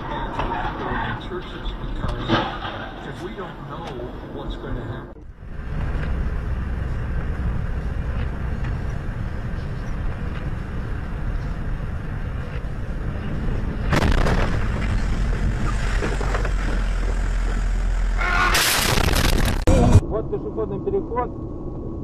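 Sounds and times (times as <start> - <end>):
road and wind rumble: 0.0 - 22.0.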